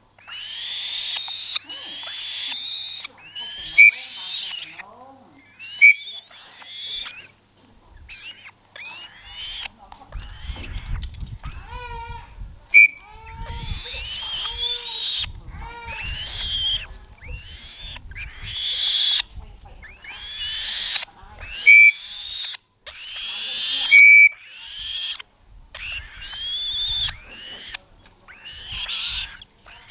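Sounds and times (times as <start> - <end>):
bird chick begging calls: 0.1 - 25.2, 25.8 - 29.9.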